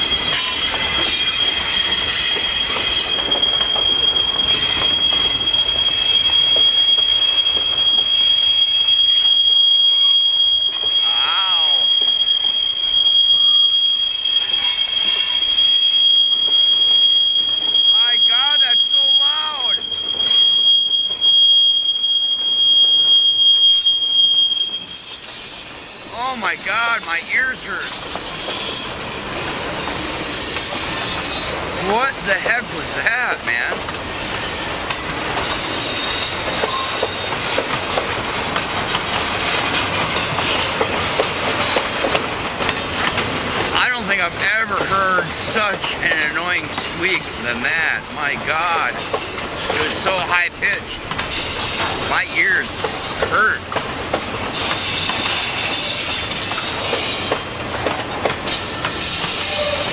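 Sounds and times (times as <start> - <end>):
high-pitched train squeal: 0.0 - 37.6, 43.2 - 53.6, 54.5 - 57.6, 58.4 - 59.9
train wheels rumbling on rails: 0.0 - 59.9.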